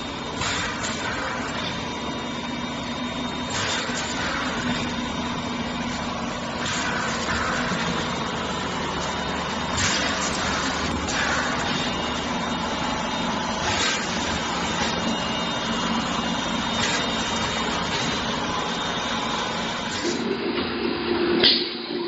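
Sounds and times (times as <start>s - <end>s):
paper tube machine running: 0.0s - 20.6s.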